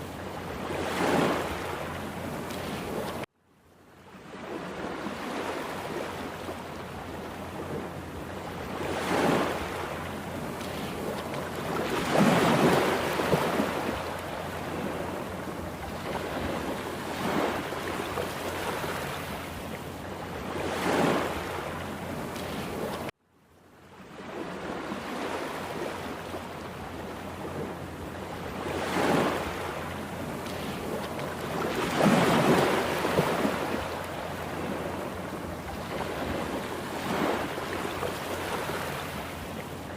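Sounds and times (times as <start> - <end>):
waves breaking: 0.0 - 3.3, 4.1 - 23.2, 24.0 - 39.9.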